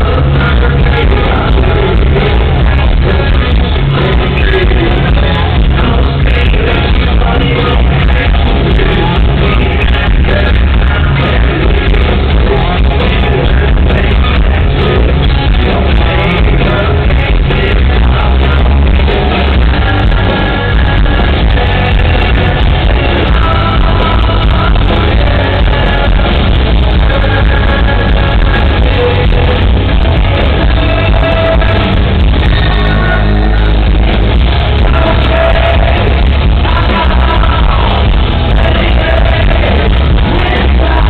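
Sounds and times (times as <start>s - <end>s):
hard rock band playing: 0.0s - 41.0s
person singing: 0.0s - 41.0s.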